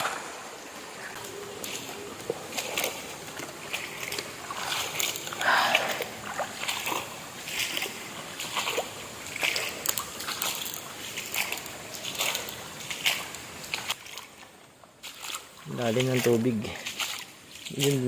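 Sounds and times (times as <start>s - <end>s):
river water splashing: 0.0s - 18.0s.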